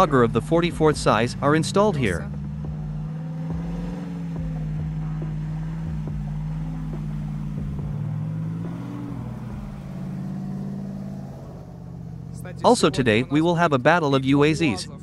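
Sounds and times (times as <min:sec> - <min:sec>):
vehicle driving through muddy water: 0:00.0 - 0:14.7
truck engine running: 0:00.0 - 0:15.0.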